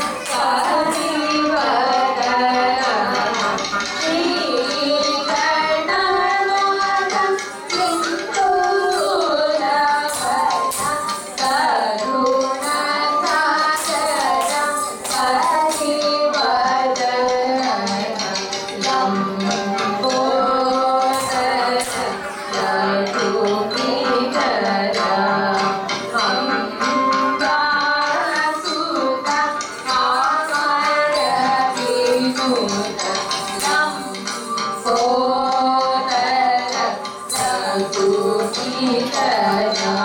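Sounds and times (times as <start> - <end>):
jingling clicking percussion: 0.0 - 40.0
woman singing: 0.0 - 40.0.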